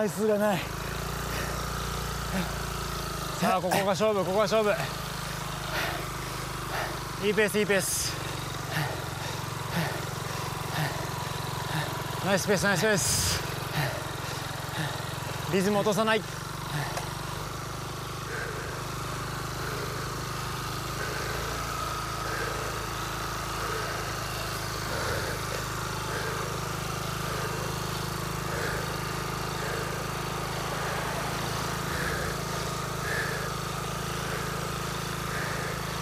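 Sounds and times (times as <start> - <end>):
vehicle engine drone: 0.0 - 36.0.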